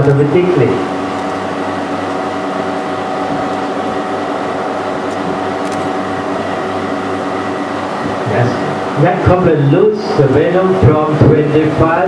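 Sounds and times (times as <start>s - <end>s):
steady multi-tone hum: 0.0s - 12.0s.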